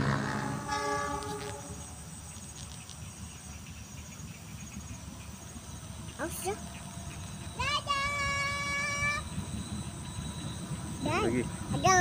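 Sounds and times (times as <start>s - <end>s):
insects chirping: 0.0s - 12.0s
low steady rumble: 0.0s - 12.0s.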